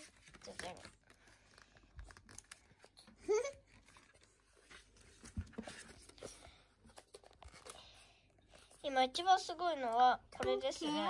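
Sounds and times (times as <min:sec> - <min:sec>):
paper and cardboard rustling: 0:00.0 - 0:11.0.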